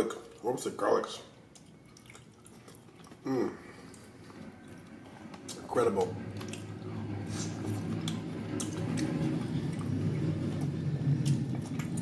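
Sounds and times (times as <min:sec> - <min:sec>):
steady low hum: 0:00.0 - 0:12.0
person chewing: 0:01.5 - 0:05.6, 0:06.3 - 0:12.0.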